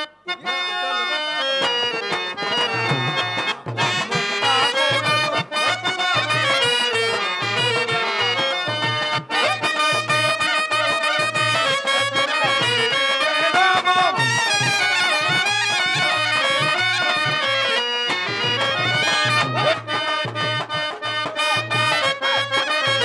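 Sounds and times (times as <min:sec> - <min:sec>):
harmonium melody: 0:00.0 - 0:23.0.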